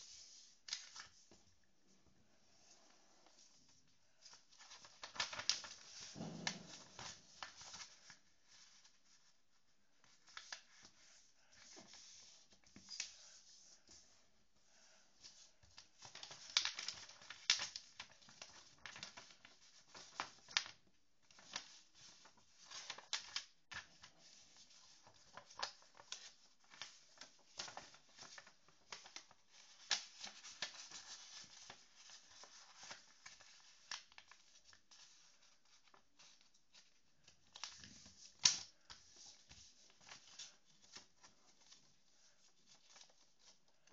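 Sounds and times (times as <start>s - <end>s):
paper rustling and crackling: 0.0s - 14.2s, 14.8s - 43.9s.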